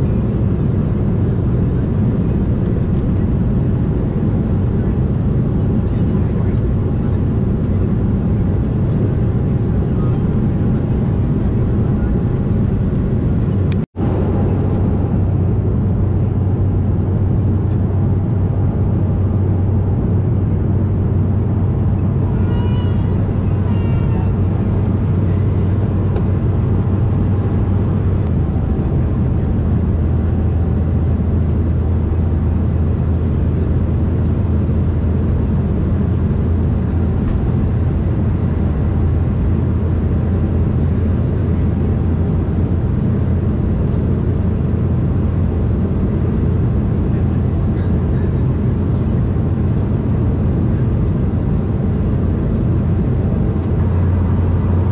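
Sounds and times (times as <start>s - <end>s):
jet engine rumble: 0.0s - 54.9s.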